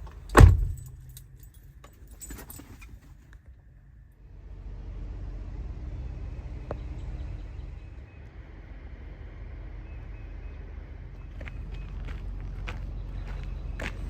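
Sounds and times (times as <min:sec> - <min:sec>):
diesel truck engine rumbling: 0:00.0 - 0:01.6, 0:04.2 - 0:14.0.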